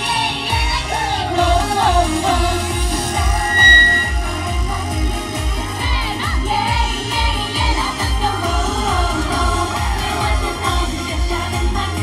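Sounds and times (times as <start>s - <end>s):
pop song over sound system: 0.0s - 12.0s.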